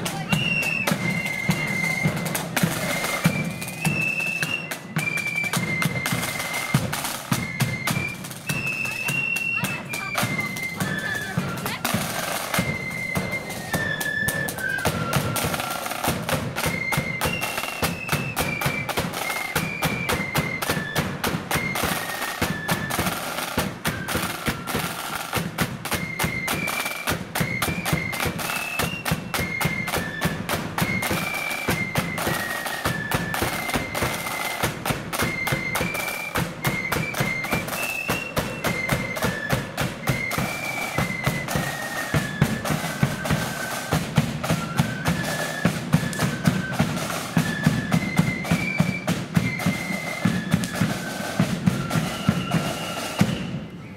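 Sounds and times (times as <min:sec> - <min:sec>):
snare drums beating: 0:00.0 - 0:53.7
flutes playing high melody: 0:00.0 - 0:53.9.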